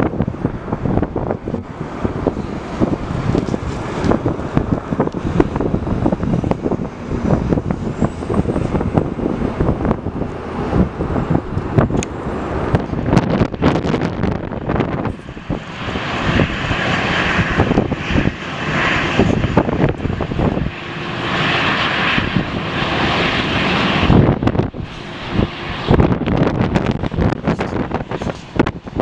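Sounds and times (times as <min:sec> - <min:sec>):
airliner engines passing: 0:00.0 - 0:29.0
wind buffeting microphone: 0:00.0 - 0:29.0.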